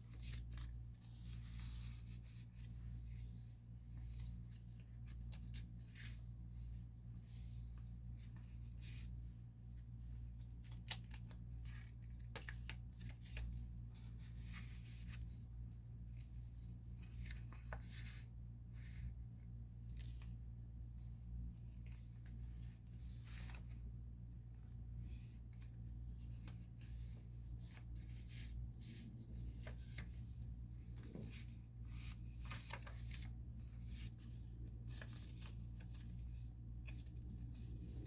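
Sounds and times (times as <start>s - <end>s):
paper rustling and crinkling: 0.0s - 15.5s, 16.1s - 19.2s, 21.0s - 23.9s, 24.6s - 38.0s
steady low hum: 0.0s - 38.0s.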